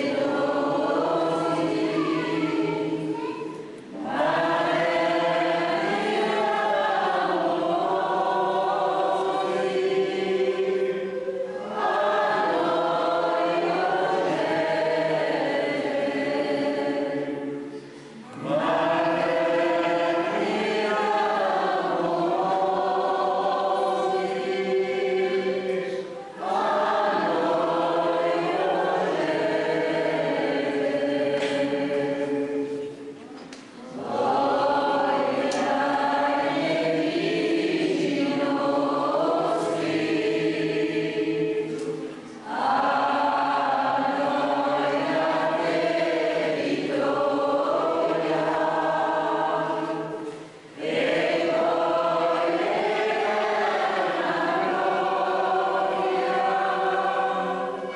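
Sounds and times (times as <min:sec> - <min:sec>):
choir singing a hymn: 0:00.0 - 0:57.9.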